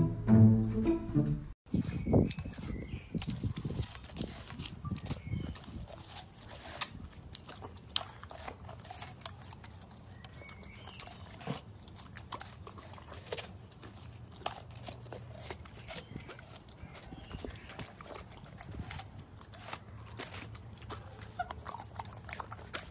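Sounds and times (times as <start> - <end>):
dog chewing watermelon: 1.7 - 22.9.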